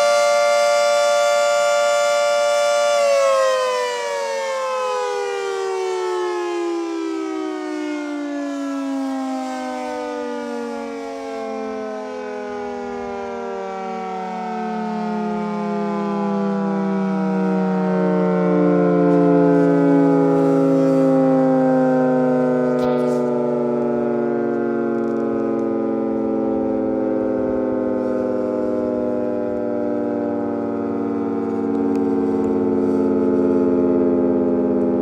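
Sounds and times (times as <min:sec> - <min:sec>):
warning siren winding down: 0:00.0 - 0:35.0.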